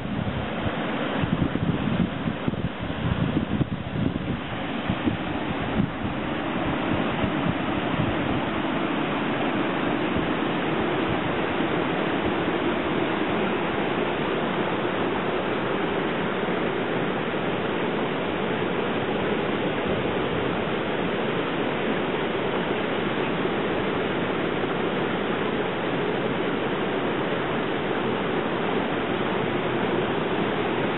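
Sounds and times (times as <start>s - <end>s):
floodwater rushing over rocks: 0.0s - 30.9s.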